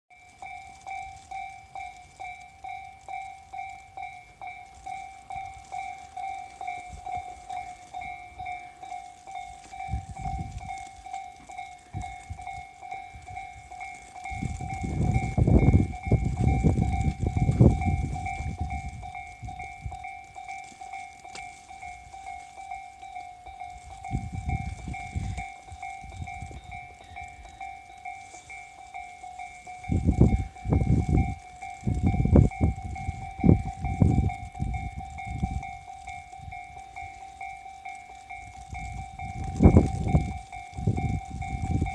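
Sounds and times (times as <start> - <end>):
level crossing bell dinging: 0.1 - 41.9
train rumbling past: 0.1 - 41.9.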